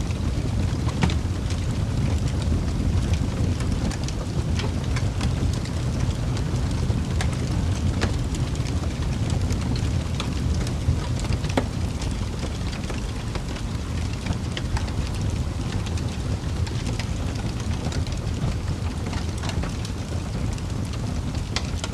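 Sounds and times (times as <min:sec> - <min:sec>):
fire crackling and popping: 0:00.0 - 0:21.9
low rumble of flame: 0:00.0 - 0:21.9.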